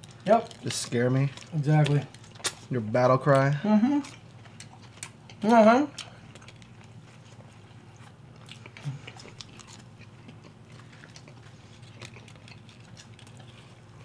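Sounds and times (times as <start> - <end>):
people biting and chewing: 0.0 - 14.0.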